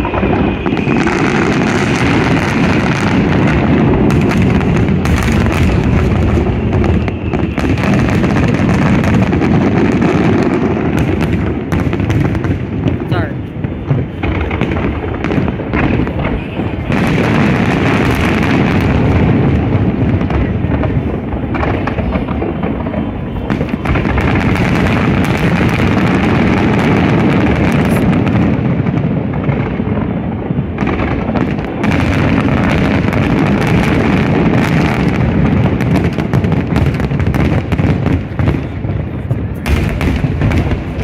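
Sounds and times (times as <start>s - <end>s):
fireworks booming and crackling: 0.0s - 41.0s.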